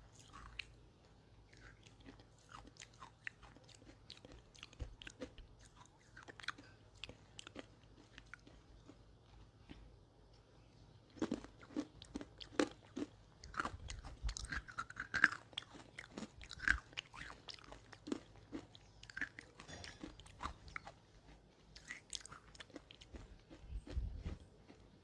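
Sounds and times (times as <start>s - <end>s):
crunchy chewing: 0.0s - 10.0s, 11.1s - 25.0s.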